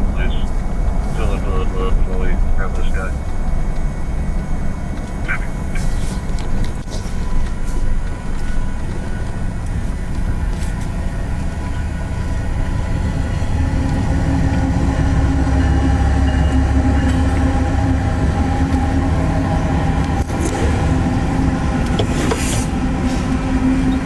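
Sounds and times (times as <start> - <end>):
freight train rumbling past: 0.0 - 24.0
steady hum: 0.0 - 24.0.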